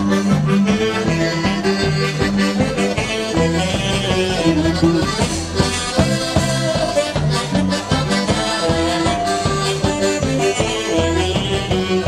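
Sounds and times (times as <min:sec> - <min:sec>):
accordion melody: 0:00.0 - 0:12.0
bass line and beat: 0:00.0 - 0:12.0.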